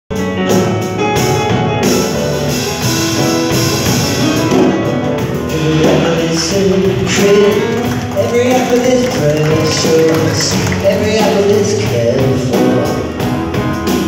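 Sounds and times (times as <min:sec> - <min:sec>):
drum kit: 0:00.1 - 0:14.0
upright double bass: 0:00.2 - 0:14.0
acoustic guitar: 0:00.3 - 0:14.0.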